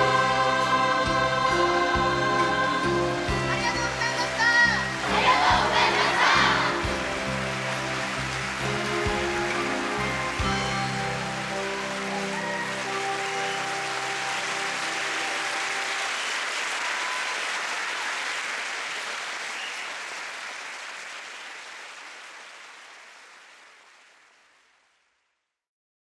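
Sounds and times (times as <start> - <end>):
theatre audience applauding: 3.4 - 25.1.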